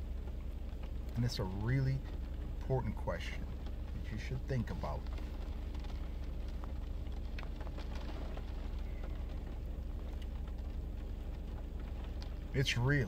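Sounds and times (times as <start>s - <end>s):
car cabin low hum: 0.0s - 13.0s
rain ticking on car: 0.0s - 13.0s.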